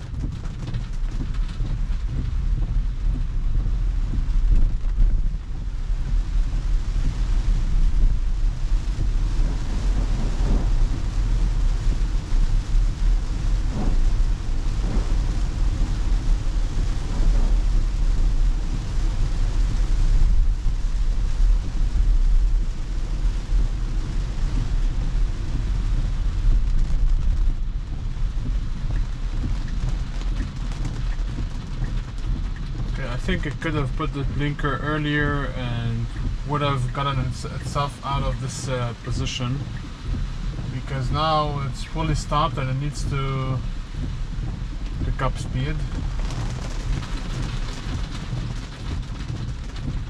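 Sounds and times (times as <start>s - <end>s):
rain on car glass: 0.0s - 50.0s
tyres on wet road: 0.0s - 50.0s.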